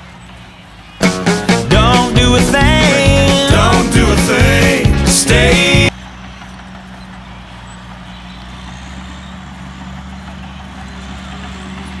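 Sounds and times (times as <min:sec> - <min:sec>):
vehicle engine running low hum: 0:00.0 - 0:12.0.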